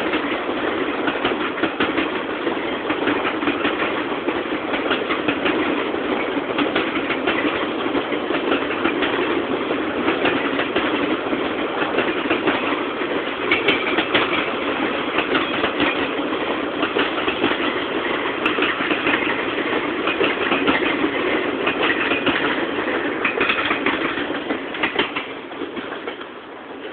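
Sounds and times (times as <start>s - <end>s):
freight train wheels clattering: 0.0s - 26.9s.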